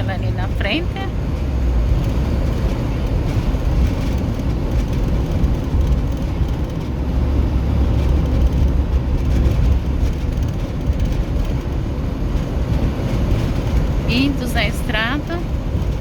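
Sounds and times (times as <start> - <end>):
vehicle road noise from cabin: 0.0 - 16.0.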